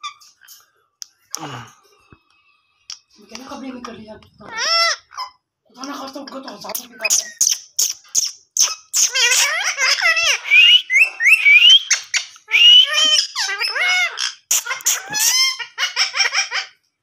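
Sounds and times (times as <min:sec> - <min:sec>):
parakeet chattering: 0:02.9 - 0:16.7.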